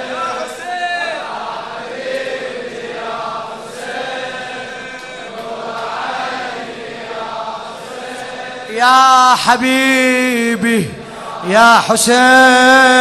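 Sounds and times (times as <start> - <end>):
chorus of voices chanting: 0.0 - 13.0.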